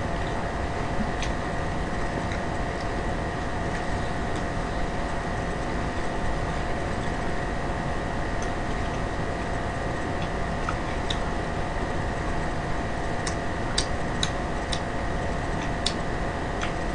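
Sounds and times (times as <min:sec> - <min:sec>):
room noise hiss and hum: 0:00.0 - 0:16.9.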